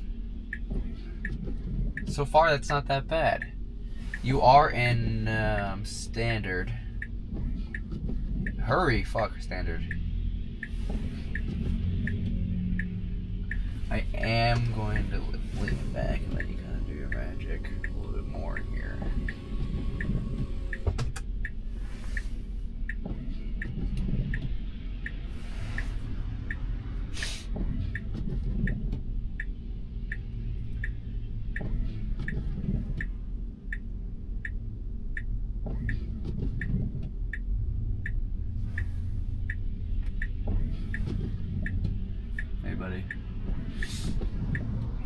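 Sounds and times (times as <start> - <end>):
low cabin rumble: 0.0 - 45.0
turn signal ticking: 0.0 - 45.0.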